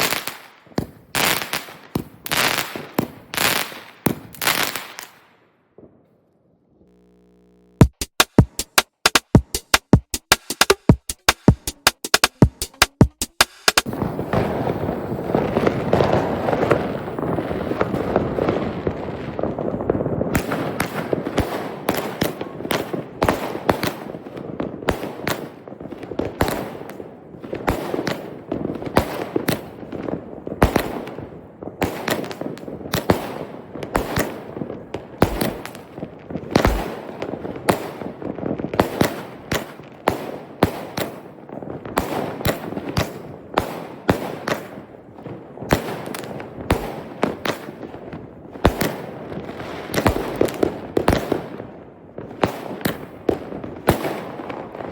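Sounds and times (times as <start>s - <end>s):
fireworks crackling: 0.0s - 5.3s, 6.8s - 54.9s
fireworks bangs: 0.0s - 6.0s, 6.9s - 54.9s.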